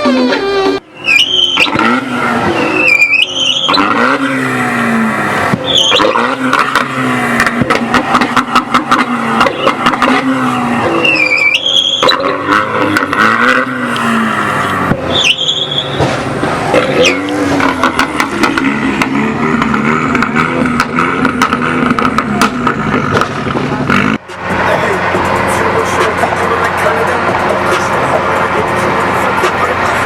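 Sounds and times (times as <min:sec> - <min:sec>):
car engine revving: 0:00.0 - 0:30.0
tire squeal: 0:00.0 - 0:30.0.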